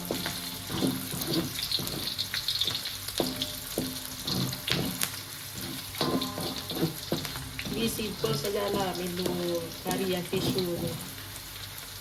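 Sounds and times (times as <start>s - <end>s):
spatula scraping and knocking pan: 0.0s - 11.2s
food sizzling in hot oil: 0.0s - 12.0s.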